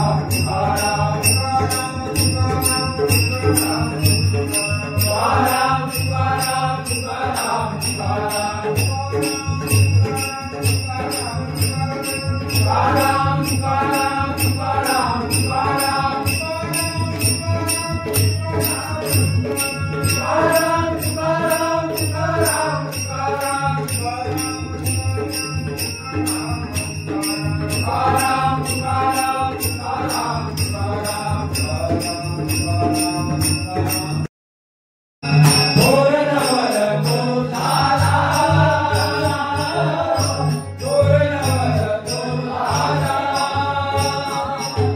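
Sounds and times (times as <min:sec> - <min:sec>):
person singing devotional song: 0:00.0 - 0:34.0, 0:35.4 - 0:44.9
small hand cymbals beating: 0:00.0 - 0:34.3, 0:35.2 - 0:44.9.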